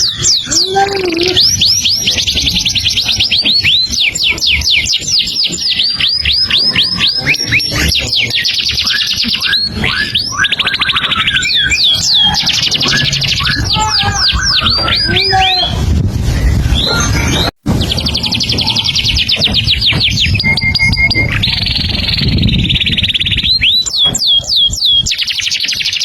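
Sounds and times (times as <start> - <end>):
songbird singing: 0.0 - 15.8, 16.4 - 26.0.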